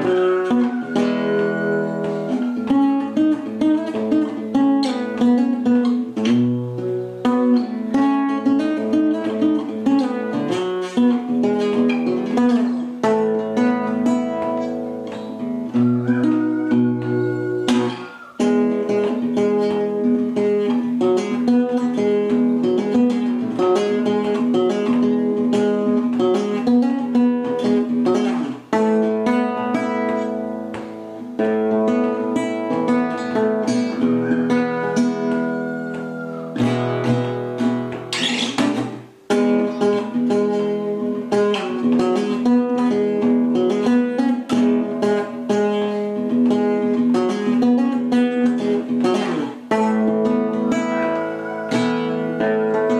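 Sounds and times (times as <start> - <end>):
classical guitar fingerstyle: 0.0 - 52.9.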